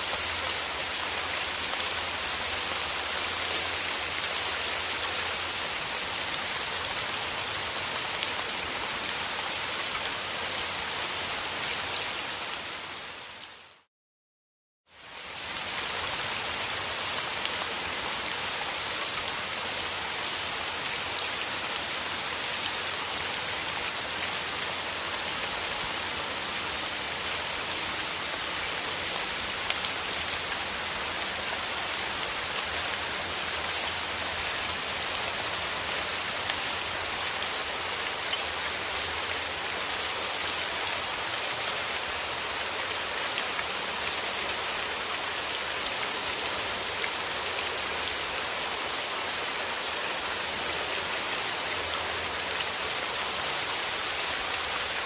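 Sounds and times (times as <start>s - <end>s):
dense rainfall: 0.0s - 13.9s, 14.9s - 55.0s.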